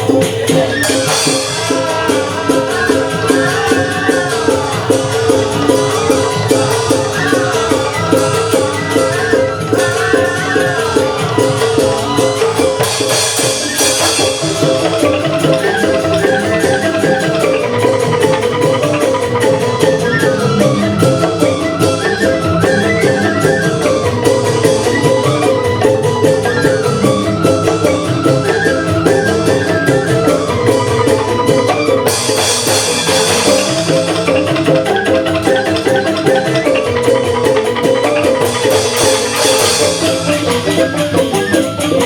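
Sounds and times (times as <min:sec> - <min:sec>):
bamboo xylophone ensemble: 0:00.0 - 0:42.0.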